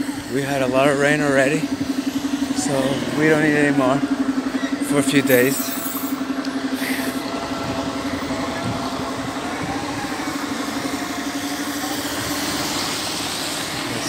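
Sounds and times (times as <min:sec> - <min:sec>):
mechanical hum: 0:00.0 - 0:14.0
rushing noise: 0:00.0 - 0:14.0.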